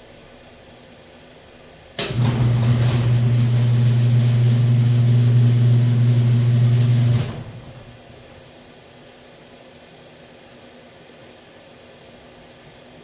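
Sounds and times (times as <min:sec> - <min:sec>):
machine low hum over hiss: 0:00.0 - 0:13.0.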